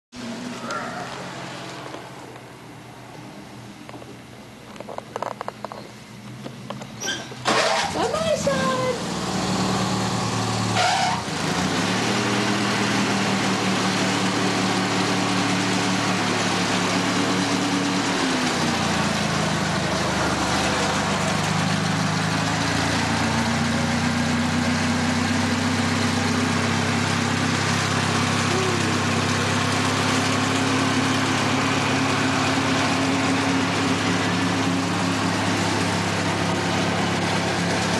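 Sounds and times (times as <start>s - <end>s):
riding lawn mower engine: 0.1s - 37.9s.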